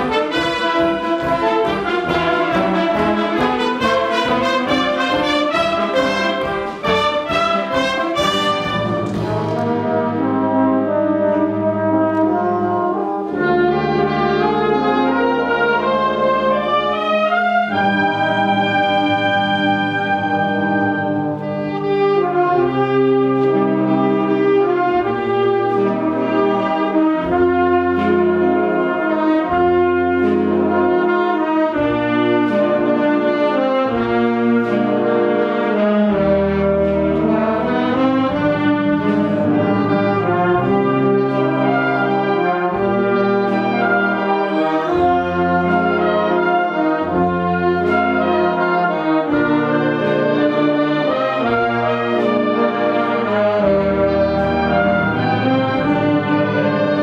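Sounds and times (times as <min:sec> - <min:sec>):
brass instruments: 0:00.0 - 0:57.0
wind band playing: 0:00.0 - 0:57.0.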